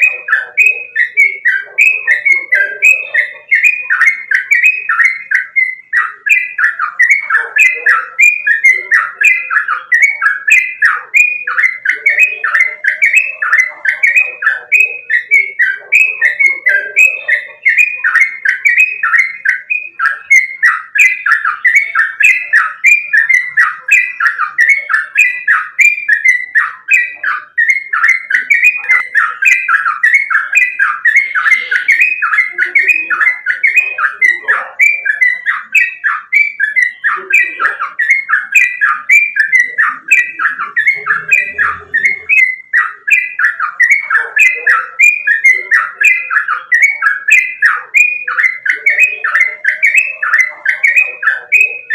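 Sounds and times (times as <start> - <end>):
bird singing slurred notes: 0.0 - 51.9.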